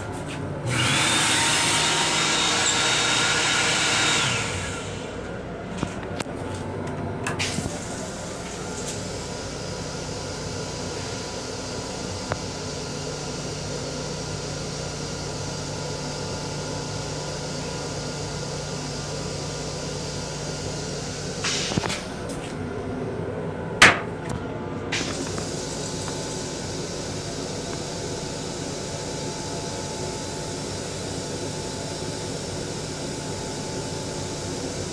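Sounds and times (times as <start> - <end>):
mechanical hum and rumble: 0.0 - 34.9.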